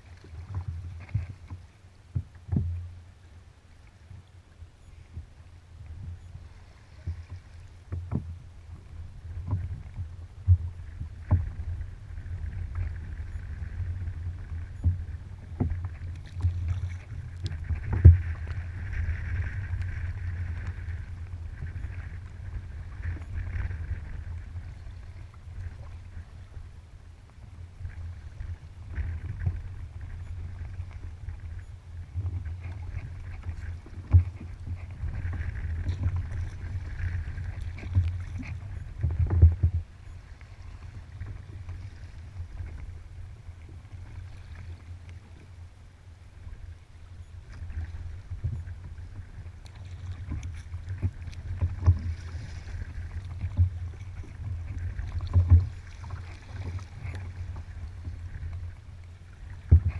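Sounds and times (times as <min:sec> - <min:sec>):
water lapping around kayak: 0:00.0 - 0:59.9
wind rumble on microphone: 0:00.0 - 0:59.9.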